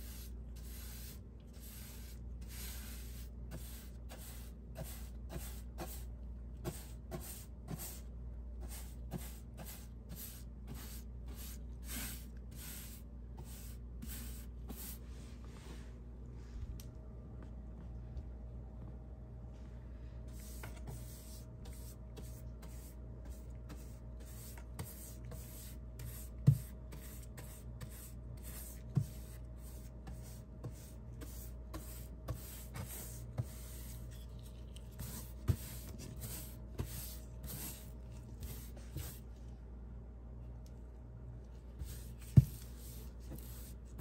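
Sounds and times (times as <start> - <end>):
paintbrush swishing on wall: 0.0 - 8.0, 8.6 - 15.9, 20.3 - 39.3, 41.8 - 44.0.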